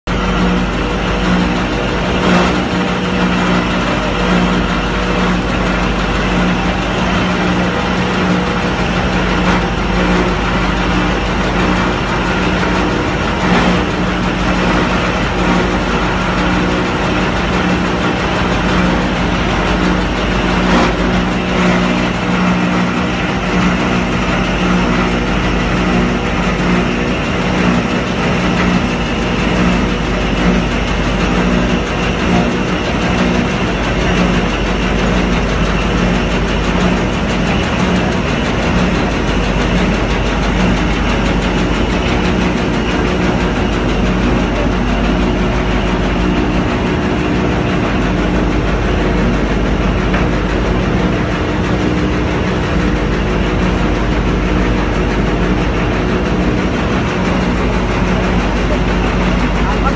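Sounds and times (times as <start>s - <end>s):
wire granulator machine running: 0.1s - 59.9s.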